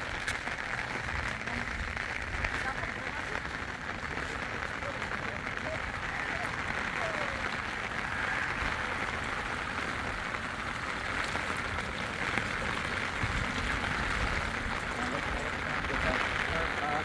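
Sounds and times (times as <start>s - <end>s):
low uneven rumble: 0.0s - 17.0s
steady rain hiss: 0.0s - 17.0s.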